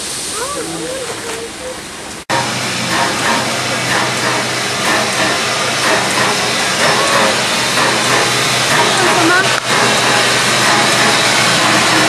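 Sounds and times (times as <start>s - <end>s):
loud hiss of steam: 0.0s - 1.2s, 2.3s - 12.0s
steam locomotive rolling past: 0.0s - 12.0s.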